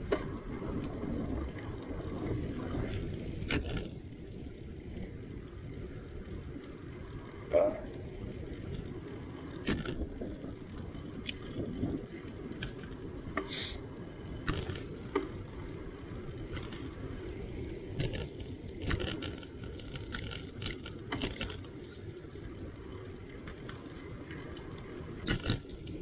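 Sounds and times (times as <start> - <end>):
bicycle tyre rumble on asphalt: 0.0 - 26.0
bike clicks and rattles: 0.0 - 26.0.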